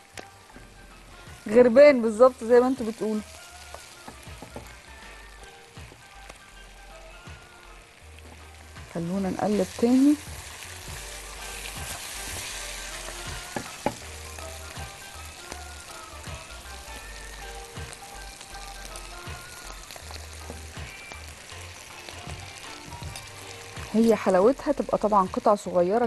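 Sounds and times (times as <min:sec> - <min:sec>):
food sizzling in a pot: 0:00.0 - 0:26.0.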